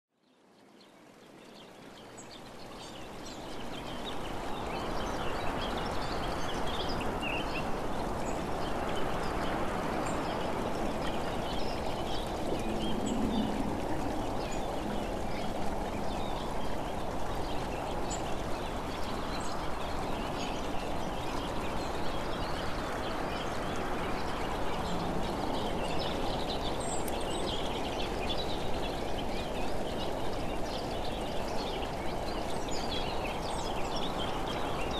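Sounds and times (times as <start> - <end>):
steady rushing outdoor ambience: 1.4 - 34.9.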